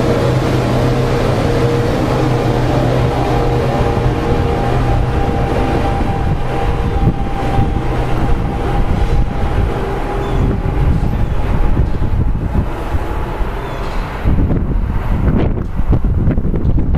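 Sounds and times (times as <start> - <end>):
electric train pulling away: 0.0 - 16.4
steady hum: 0.0 - 16.7.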